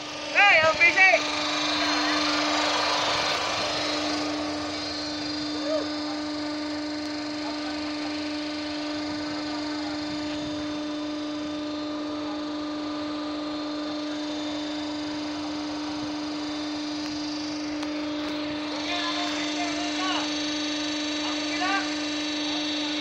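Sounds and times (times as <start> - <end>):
deck machinery humming: 0.0 - 23.0.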